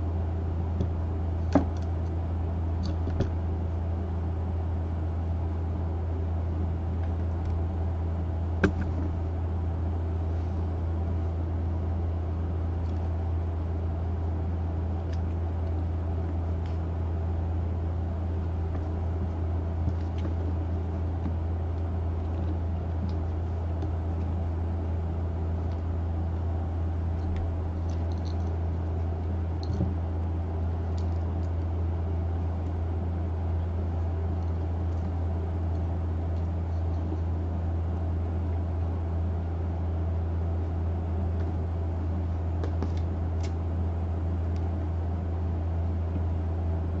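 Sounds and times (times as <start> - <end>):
machine humming: 0.0 - 46.6.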